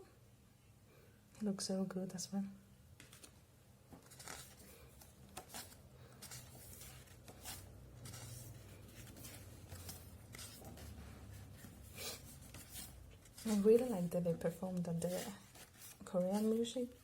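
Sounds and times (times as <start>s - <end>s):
paper pages rustling: 3.0s - 17.0s.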